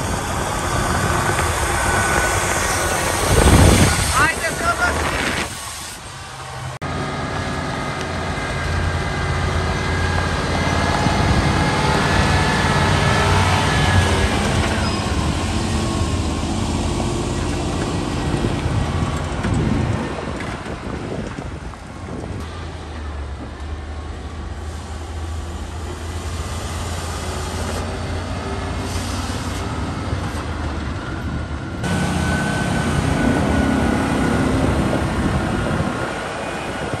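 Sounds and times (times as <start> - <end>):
high engine whine: 0.0 - 37.0
low diesel engine hum: 0.0 - 37.0.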